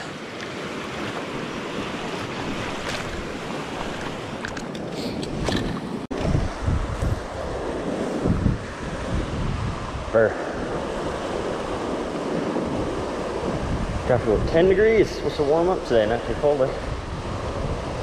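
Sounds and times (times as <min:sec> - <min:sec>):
fast river rushing: 0:00.0 - 0:18.0
wind buffeting microphone: 0:00.0 - 0:18.0.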